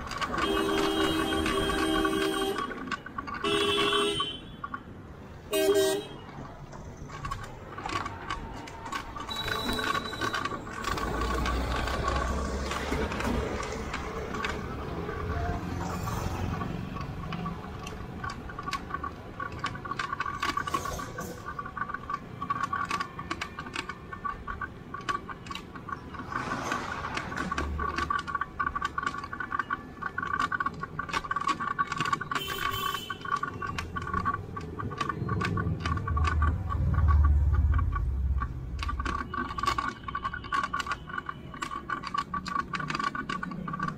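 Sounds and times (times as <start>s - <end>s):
bicycle ticking and rattling: 0.0s - 43.9s.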